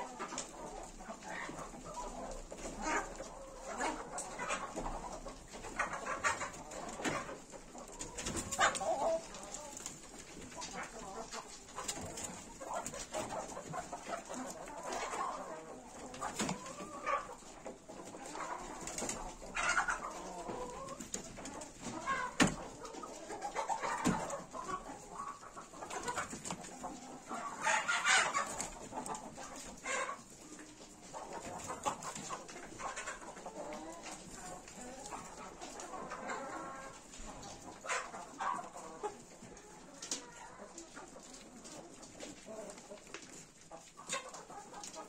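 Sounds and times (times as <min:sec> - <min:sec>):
chickens clucking: 0:00.0 - 0:45.0.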